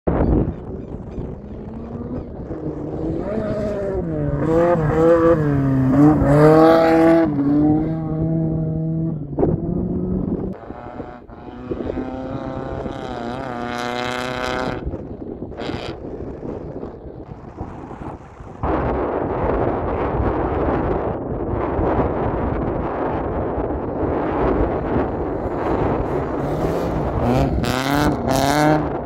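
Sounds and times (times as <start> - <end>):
rally car engine revving: 1.0 - 19.0, 23.4 - 29.0.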